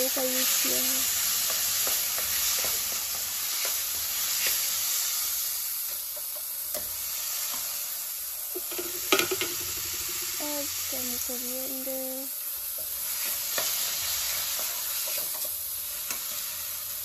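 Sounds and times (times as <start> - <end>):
tomatoes sizzling in oil: 0.0 - 17.0.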